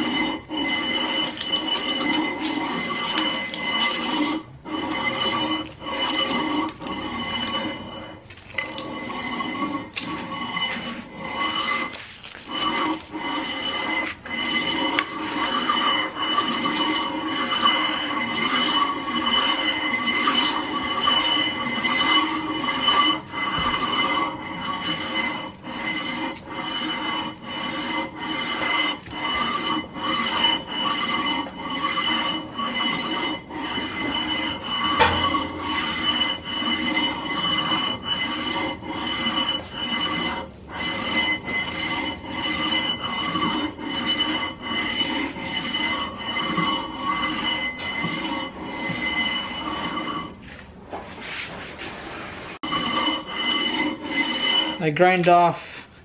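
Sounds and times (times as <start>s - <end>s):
sandpaper rasping on metal: 0.0s - 56.0s.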